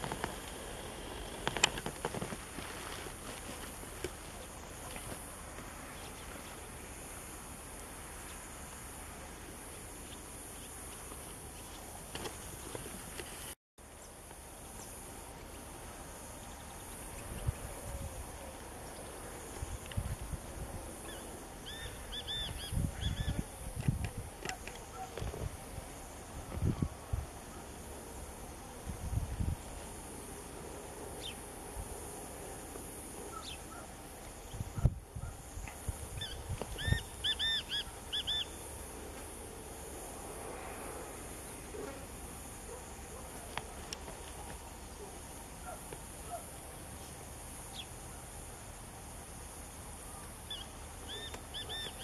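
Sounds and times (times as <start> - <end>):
high insect hiss: 0.0 - 52.0.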